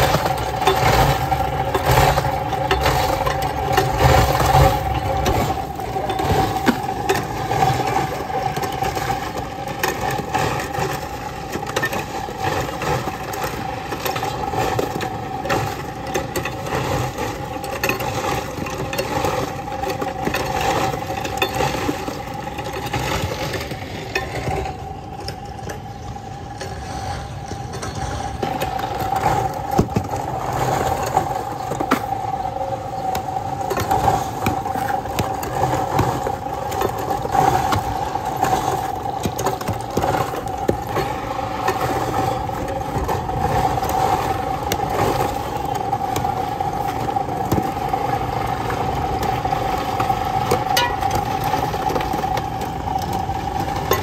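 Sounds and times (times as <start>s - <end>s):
clicks and clatters: 0.0s - 32.3s, 32.9s - 54.0s.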